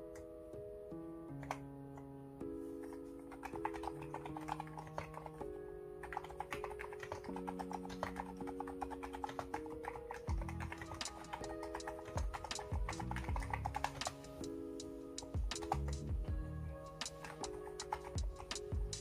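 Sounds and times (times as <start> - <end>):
background music with chords: 0.0 - 19.0
keyboard keystroke clacks: 1.4 - 2.1, 2.8 - 16.4, 17.0 - 19.0.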